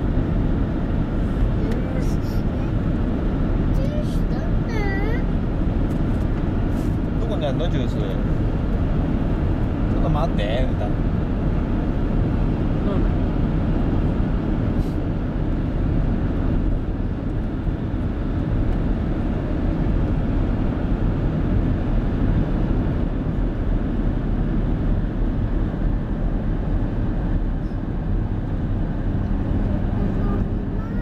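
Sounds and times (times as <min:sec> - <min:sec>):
car road and wind noise: 0:00.0 - 0:31.0.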